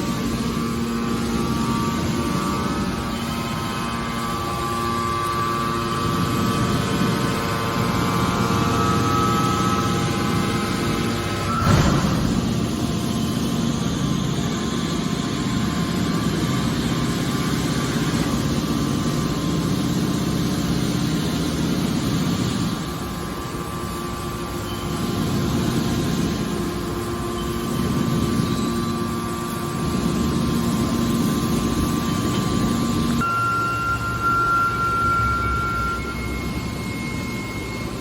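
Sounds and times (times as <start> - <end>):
scrap metal baler drone: 0.0 - 38.0.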